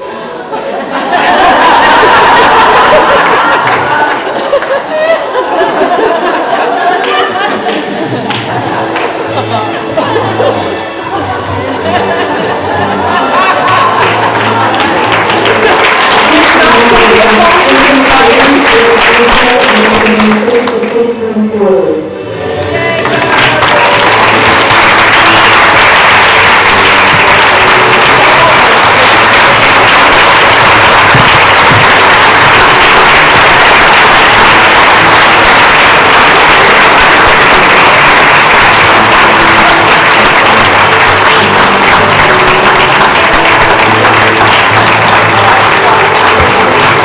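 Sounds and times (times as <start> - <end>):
music playing: 0.0 - 47.0
crowd applauding: 0.8 - 21.0, 22.4 - 47.0.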